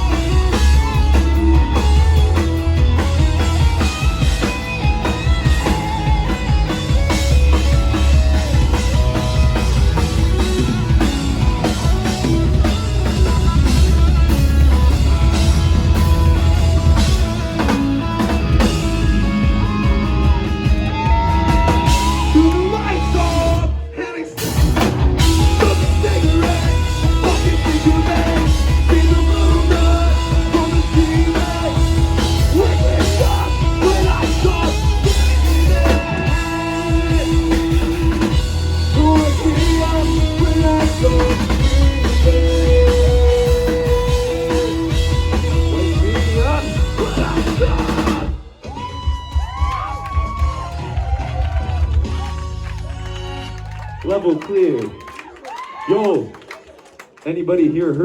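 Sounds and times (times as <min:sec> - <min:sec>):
live rock band playing: 0:00.0 - 0:54.8.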